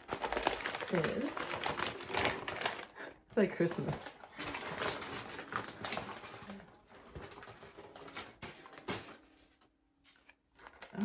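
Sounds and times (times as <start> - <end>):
packing wrap rustling and crinkling: 0.0 - 11.0.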